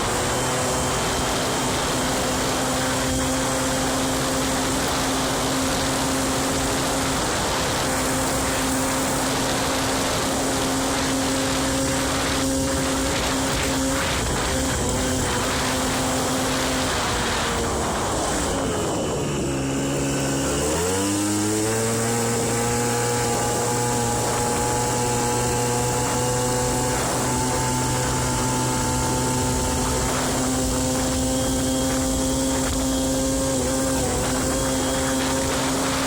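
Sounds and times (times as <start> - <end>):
scooter engine running: 0.0 - 36.0.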